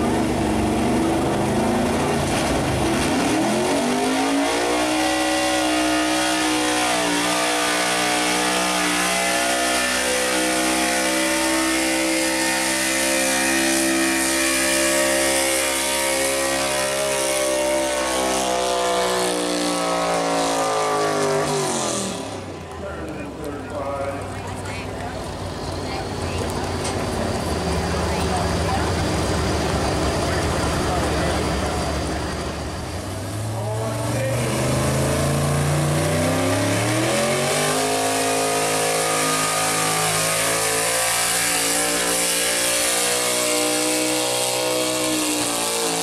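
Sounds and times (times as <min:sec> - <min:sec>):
truck engine revving under load: 0:00.0 - 0:46.0.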